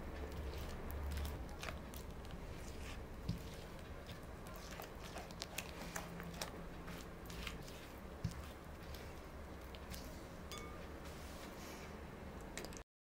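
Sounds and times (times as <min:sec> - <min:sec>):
batter squelching: 0:00.0 - 0:12.8.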